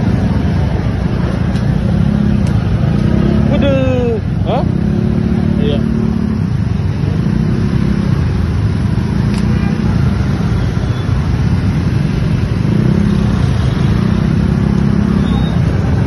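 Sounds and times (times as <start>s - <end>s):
motorcycle engines humming: 0.0s - 16.0s.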